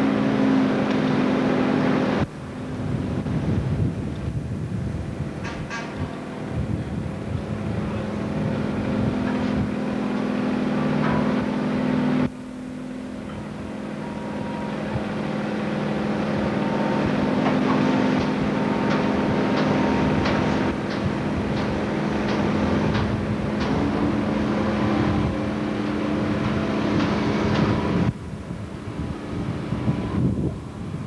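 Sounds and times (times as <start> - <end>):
boat engines droning: 0.0 - 31.0
wind noise: 2.1 - 11.6, 13.3 - 31.0.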